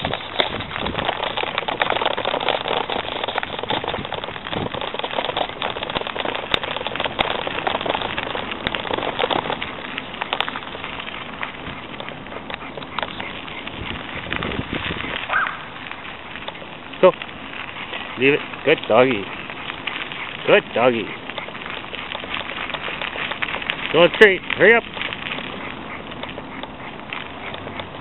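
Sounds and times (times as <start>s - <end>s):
bicycle tyres crunching on trail: 0.0s - 28.0s
dogs' paws running on gravel: 0.0s - 28.0s.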